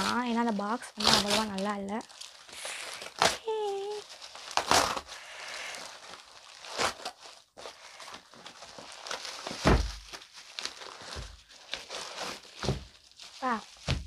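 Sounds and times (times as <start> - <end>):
bubble wrap and cardboard rustling: 0.0 - 14.0.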